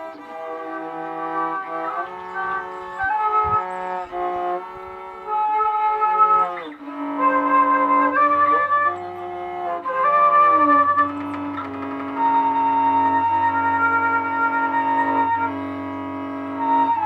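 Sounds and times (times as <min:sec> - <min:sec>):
flute playing long notes: 0:00.0 - 0:17.0.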